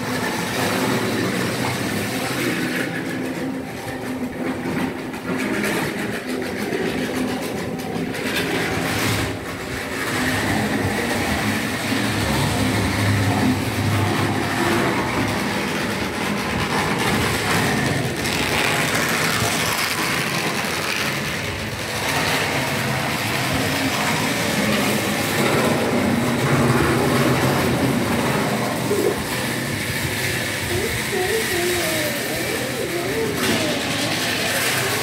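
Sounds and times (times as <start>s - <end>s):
model train rumbling on track: 0.0s - 35.0s.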